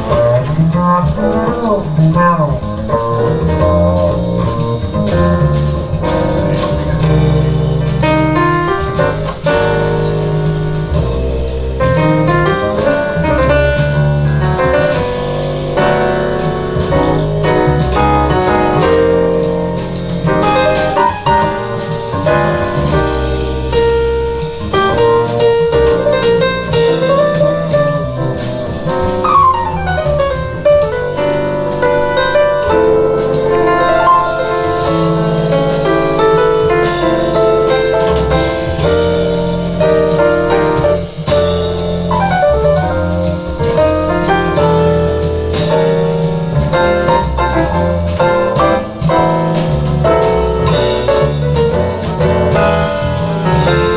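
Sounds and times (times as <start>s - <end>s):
jazz piano over loudspeakers: 0.0s - 53.9s.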